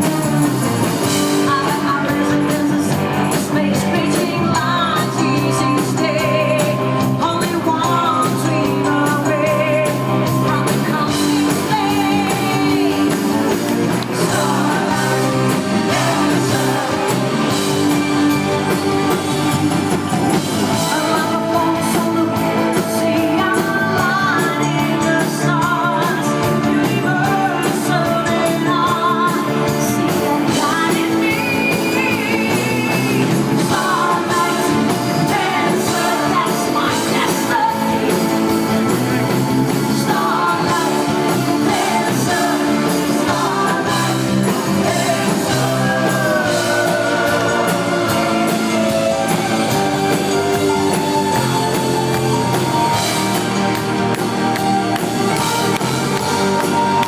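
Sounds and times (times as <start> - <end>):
live rock band with vocals: 0.0 - 57.0.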